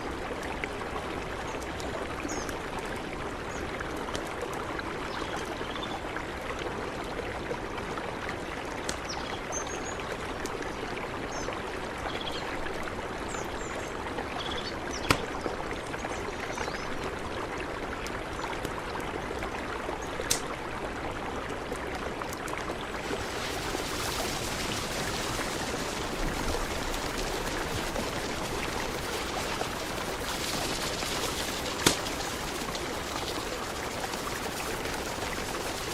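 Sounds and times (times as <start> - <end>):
mountain river flowing: 0.0 - 35.9.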